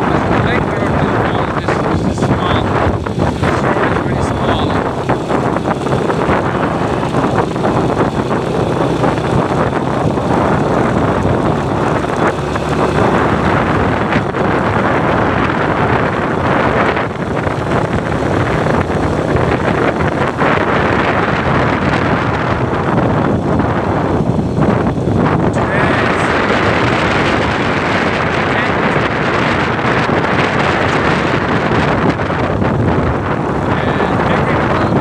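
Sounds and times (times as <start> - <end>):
low engine and road hum: 0.0 - 35.0
wind buffeting microphone: 0.0 - 35.0.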